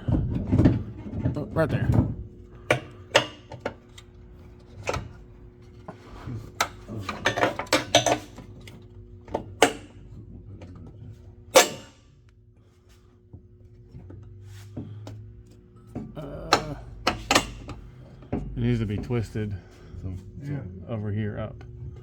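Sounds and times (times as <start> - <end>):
metal clanks and knocks: 0.0 - 12.0, 13.9 - 19.9
steady low hum: 0.0 - 22.0.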